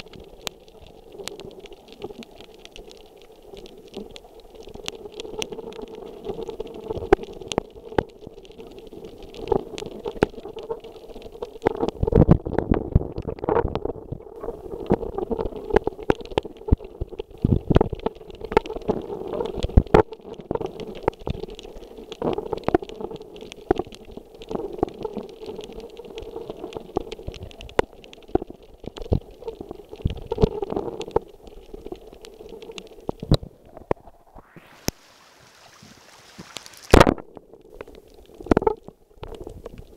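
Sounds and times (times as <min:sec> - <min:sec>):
underwater clicks and crackles: 0:00.0 - 0:39.9
underwater murmur of water: 0:00.0 - 0:39.9
underwater rumbling: 0:00.0 - 0:39.9.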